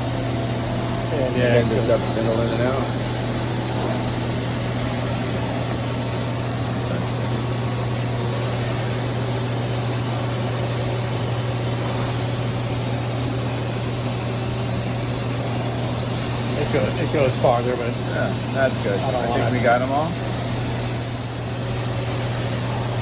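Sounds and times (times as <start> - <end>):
lathe low hum and whir: 0.0 - 23.0.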